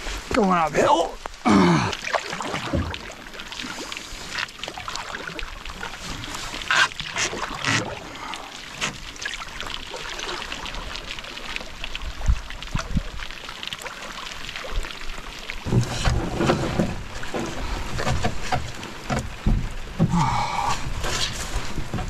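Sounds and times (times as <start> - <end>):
rain on water: 0.0 - 22.0
paddle splashing in water: 1.0 - 22.0.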